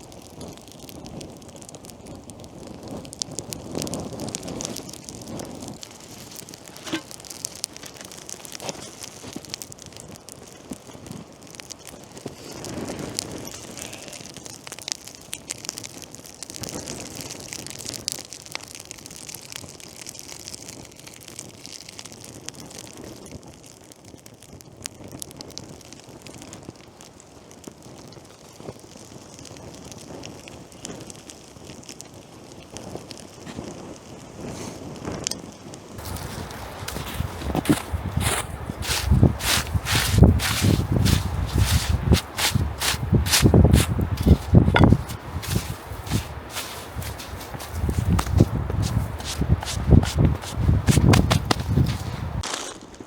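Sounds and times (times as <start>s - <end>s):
campfire crackling: 0.0s - 53.0s.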